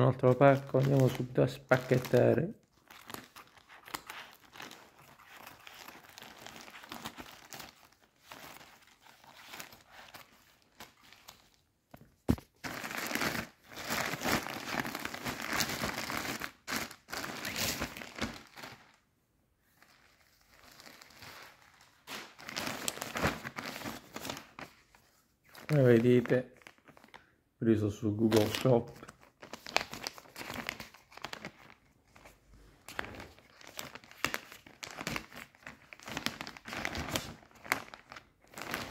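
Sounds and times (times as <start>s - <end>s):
plastic crinkling and rustling: 0.0s - 19.0s, 19.6s - 27.3s, 28.2s - 38.9s.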